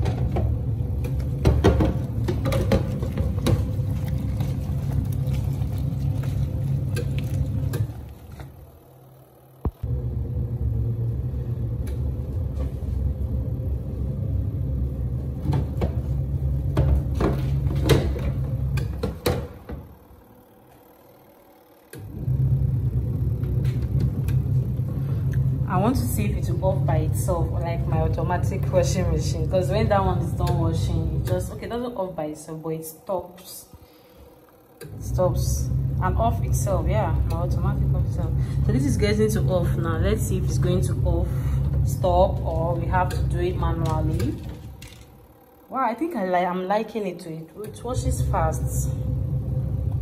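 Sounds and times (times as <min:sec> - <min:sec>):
washing machine motor rumble: 0:00.0 - 0:50.0.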